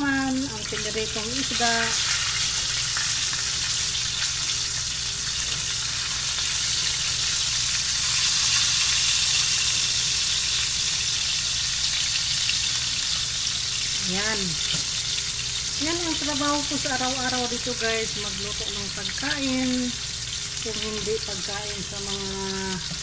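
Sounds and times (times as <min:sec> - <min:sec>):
low steady hum: 0:00.0 - 0:08.7, 0:09.6 - 0:23.0
fish sizzling in hot oil: 0:00.0 - 0:23.0.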